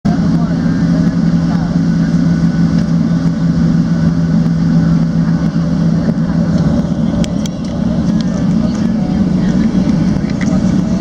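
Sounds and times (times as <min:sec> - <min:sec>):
aircraft cabin hum and rumble: 0:00.0 - 0:11.0
droning tone: 0:00.1 - 0:11.0.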